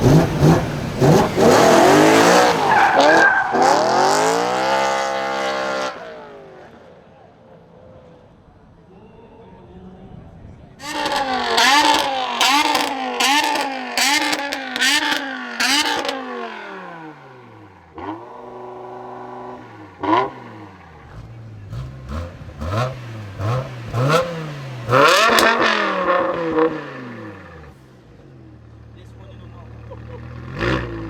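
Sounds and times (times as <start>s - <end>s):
car engine revving and idling: 0.0s - 6.8s, 10.8s - 31.0s.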